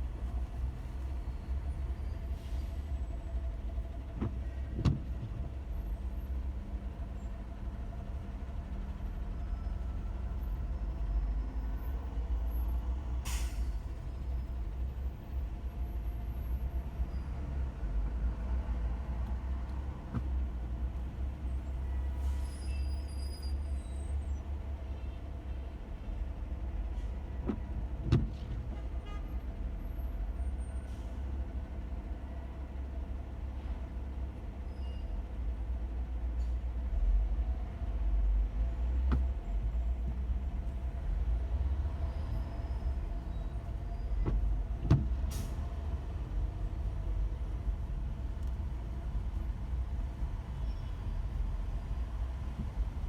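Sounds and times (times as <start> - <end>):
car driving low rumble: 0.0 - 53.0.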